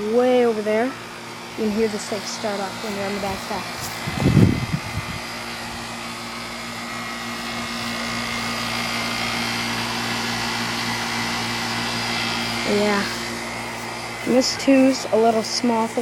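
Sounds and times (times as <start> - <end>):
compressor humming: 0.0 - 16.0
condenser fan whirring: 0.0 - 16.0.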